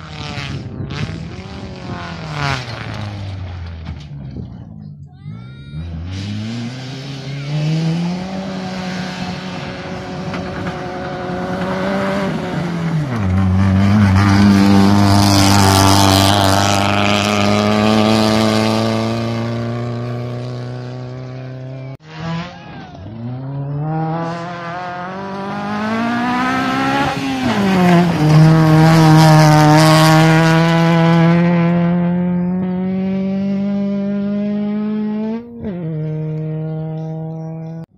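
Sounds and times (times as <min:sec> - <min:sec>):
rally car engines at full throttle: 0:00.0 - 0:37.9.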